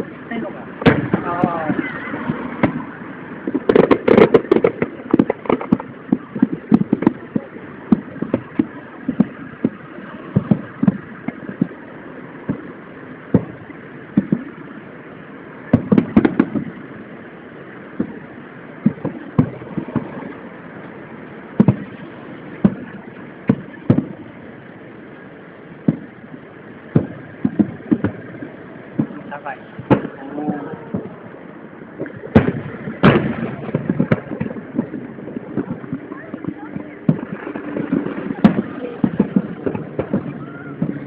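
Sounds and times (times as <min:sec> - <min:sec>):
firework shells bursting: 0:00.0 - 0:14.7, 0:15.7 - 0:17.1, 0:17.9 - 0:24.7, 0:25.7 - 0:41.0.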